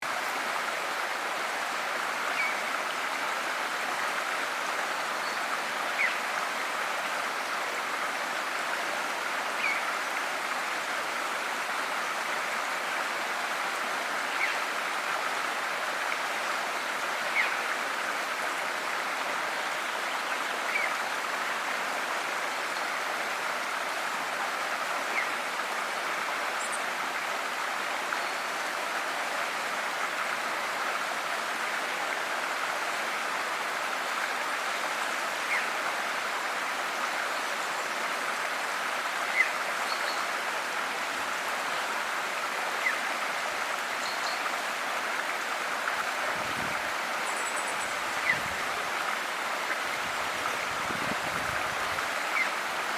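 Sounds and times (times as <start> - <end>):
river flowing: 0.0 - 52.9.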